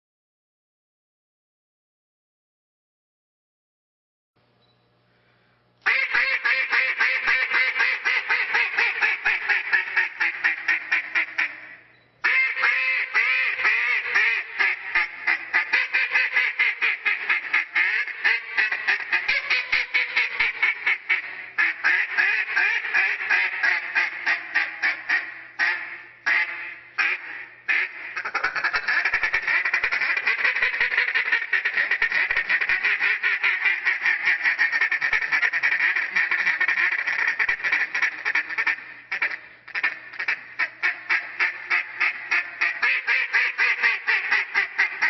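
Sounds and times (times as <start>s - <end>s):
duck call quacking: 5.8s - 45.0s.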